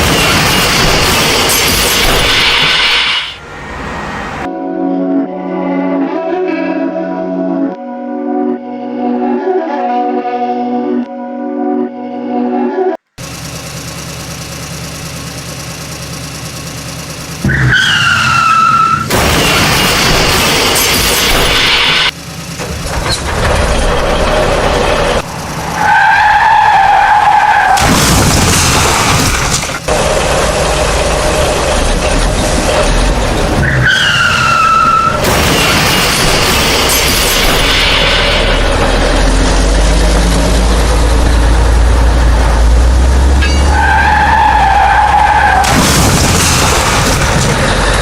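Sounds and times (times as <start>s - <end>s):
noisy vehicle engine: 0.0s - 4.6s, 13.2s - 48.0s.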